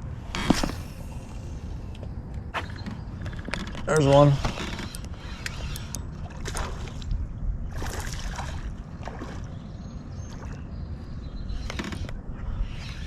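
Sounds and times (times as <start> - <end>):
steady low rumble: 0.0 - 13.0
water sloshing around boat: 0.0 - 13.0.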